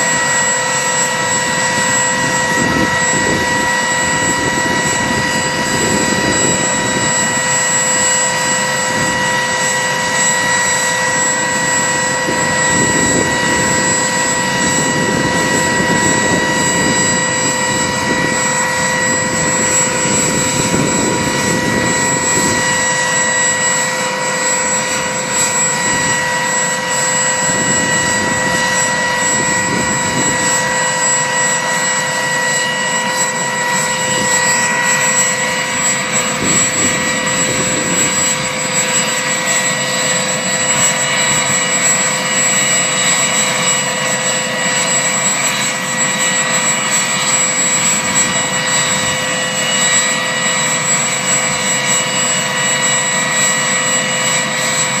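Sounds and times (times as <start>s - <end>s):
helicopter rotor rushing: 0.0s - 55.0s
helicopter turbine whine: 0.0s - 55.0s.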